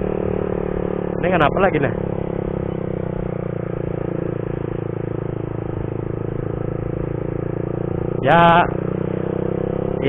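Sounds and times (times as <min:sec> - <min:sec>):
motorcycle engine cruising: 0:00.0 - 0:10.0
road and wind noise: 0:00.0 - 0:10.0.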